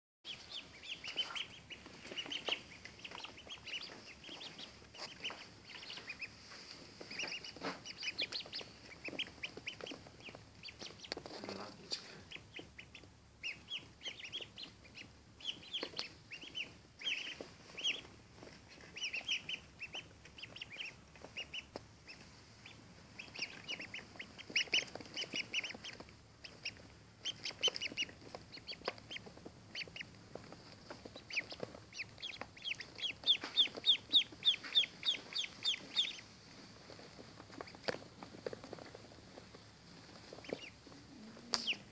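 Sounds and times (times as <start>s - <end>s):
ducklings peeping: 0.3s - 41.9s.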